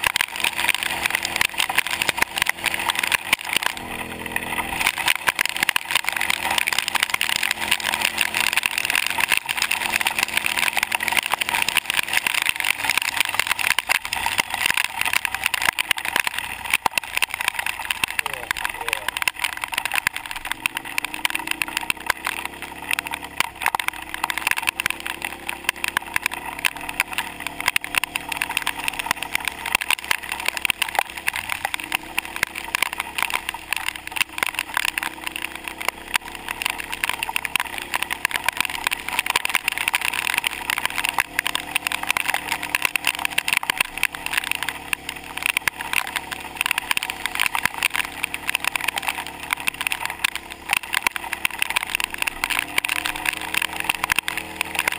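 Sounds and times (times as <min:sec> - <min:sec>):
atv engine revving: 0:00.0 - 0:54.9
rain and hail striking camera: 0:00.0 - 0:54.9.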